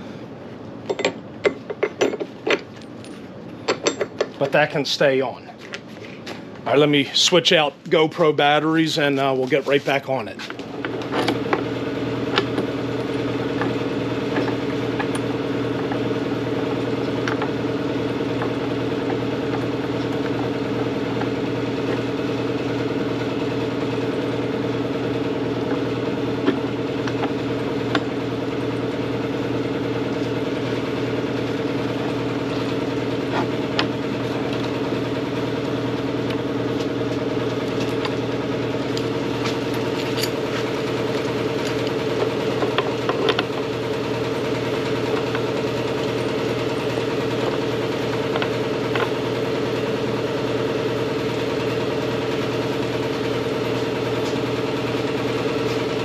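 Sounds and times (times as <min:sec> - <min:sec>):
machine humming: 0:00.0 - 0:56.0.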